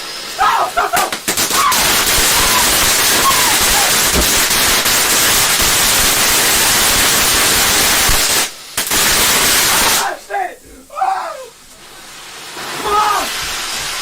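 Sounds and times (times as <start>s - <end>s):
fountain firework hissing: 0.0s - 14.0s.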